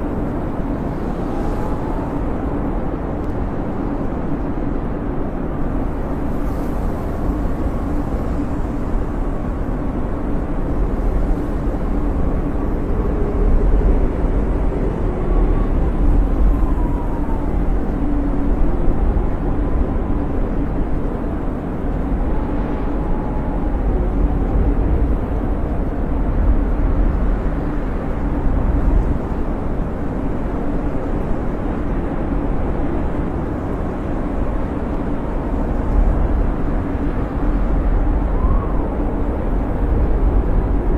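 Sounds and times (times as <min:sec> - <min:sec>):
storm wind blowing: 0:00.0 - 0:40.9.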